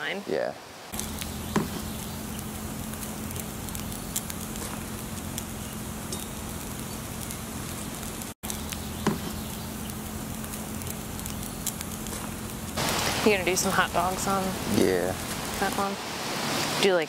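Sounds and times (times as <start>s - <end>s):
vegetables sizzling on a grill: 0.1s - 17.0s
charcoal crackling: 0.9s - 16.0s.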